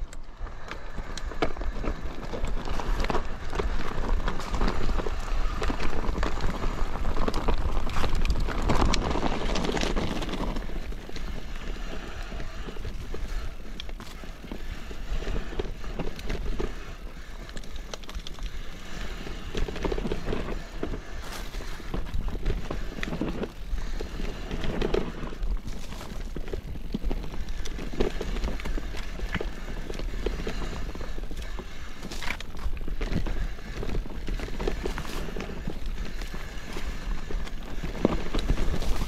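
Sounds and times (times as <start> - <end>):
tyres on gravel and rock: 0.0 - 39.0
bike rattling and knocking: 0.4 - 39.0.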